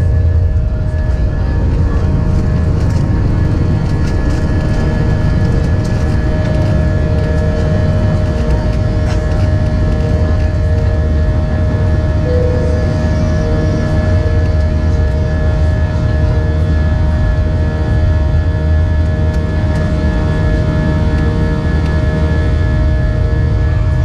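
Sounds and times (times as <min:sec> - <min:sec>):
jet engines heard from cabin: 0:00.0 - 0:24.0.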